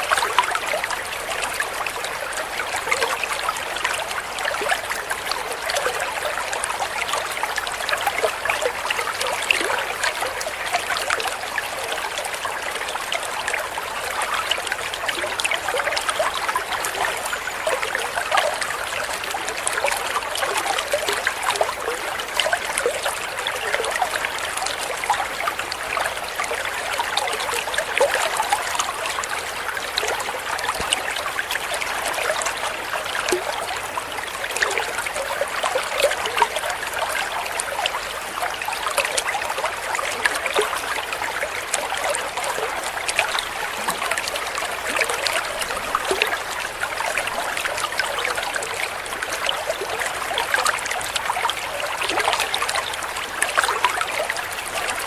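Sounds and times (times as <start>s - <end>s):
trickling babbling water: 0.0s - 55.0s.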